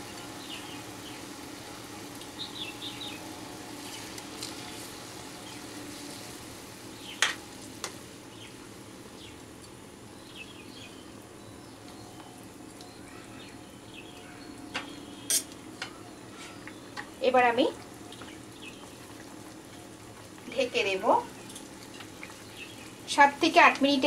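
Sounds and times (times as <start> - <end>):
gravy bubbling and hissing: 0.0 - 24.0.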